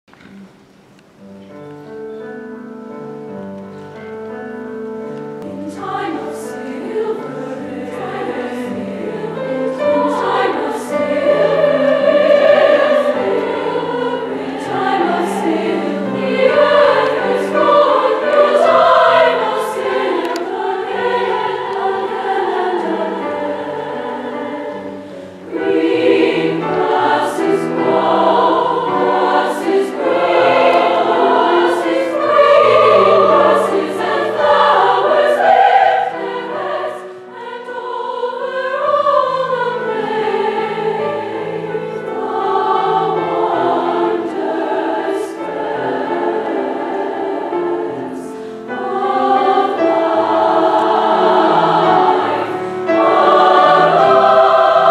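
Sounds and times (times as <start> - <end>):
choir singing classical piece: 1.2 - 54.9.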